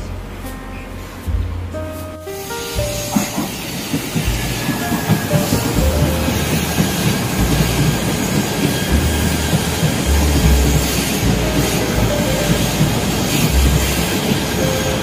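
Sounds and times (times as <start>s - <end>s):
train wheels rumbling on rails: 0.0s - 15.0s
wheel squeals: 2.8s - 15.0s.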